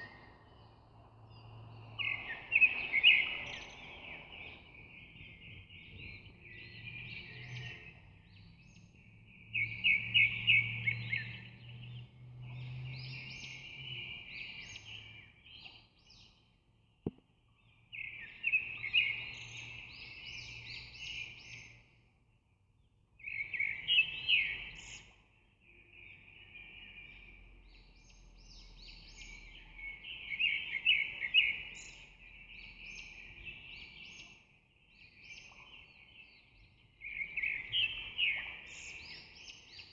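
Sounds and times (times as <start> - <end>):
bird chirping and twittering: 0.0 - 16.4, 23.2 - 39.9.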